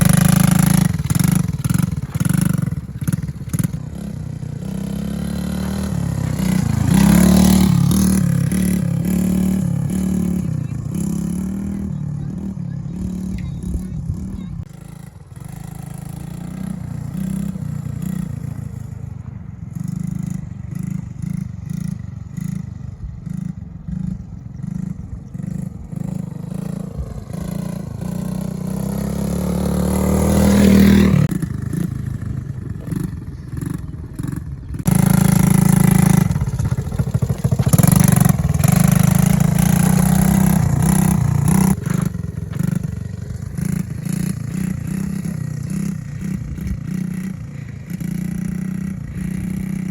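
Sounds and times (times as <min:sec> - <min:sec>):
small atv engine revving: 0:00.0 - 0:49.9.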